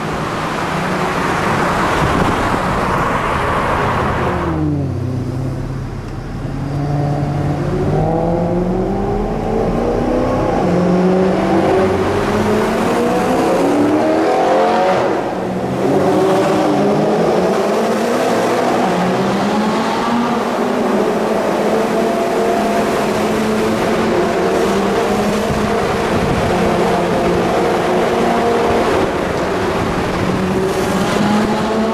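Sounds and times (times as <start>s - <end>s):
sports car engine accelerating: 2.6s - 31.9s.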